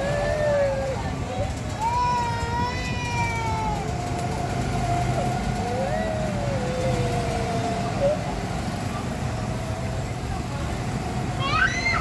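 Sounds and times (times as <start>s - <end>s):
go-kart engines droning: 0.0s - 12.0s
kart engine passing by: 0.0s - 12.0s.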